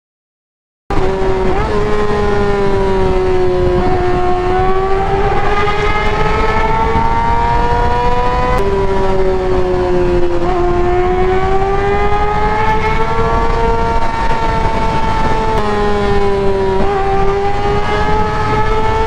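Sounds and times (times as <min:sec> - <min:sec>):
motorcycle engine revving: 0:00.9 - 0:19.0
wind rush: 0:00.9 - 0:19.0.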